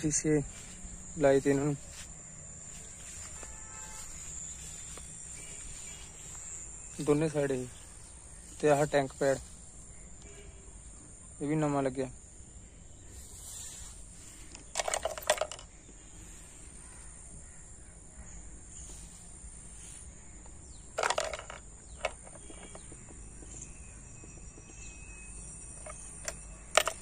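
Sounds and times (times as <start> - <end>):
crickets chirring: 0.0 - 27.0.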